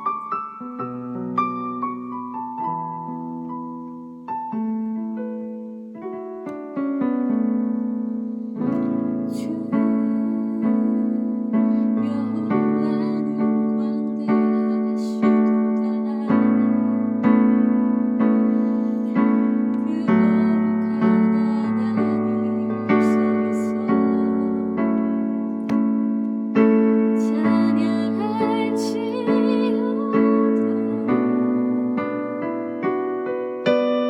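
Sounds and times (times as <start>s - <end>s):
electric piano playing hymn chords: 0.0s - 34.0s.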